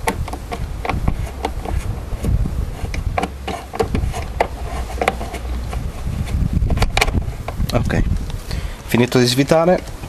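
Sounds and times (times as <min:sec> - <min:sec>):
low background rumble: 0:00.0 - 0:09.0.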